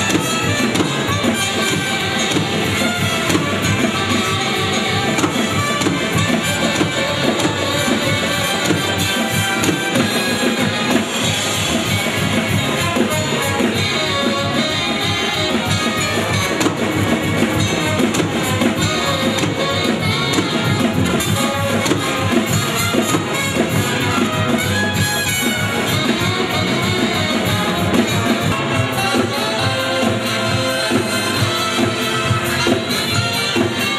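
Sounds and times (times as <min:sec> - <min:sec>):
lively instrumental music with drums: 0:00.0 - 0:33.9.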